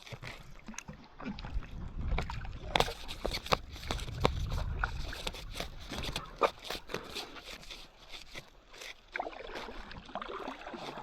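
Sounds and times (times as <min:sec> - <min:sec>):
paddle blades dipping and splashing: 0:00.0 - 0:11.0.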